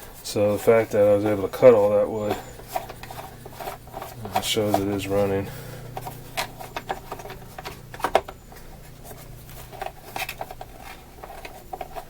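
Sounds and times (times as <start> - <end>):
faint low hum: 0.0 - 12.0
light handling clicks and rustles: 0.0 - 12.0.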